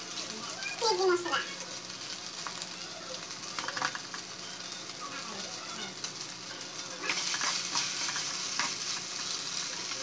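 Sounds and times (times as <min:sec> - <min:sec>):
pasta sizzling in a pan: 0:00.0 - 0:10.0.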